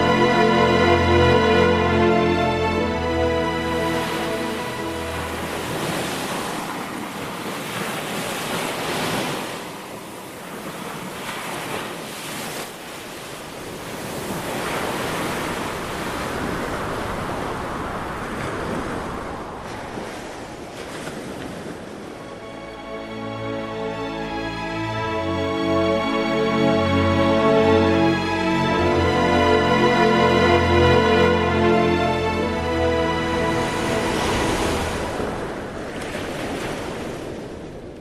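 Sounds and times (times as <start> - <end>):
ocean surf breaking: 0.0 - 38.0.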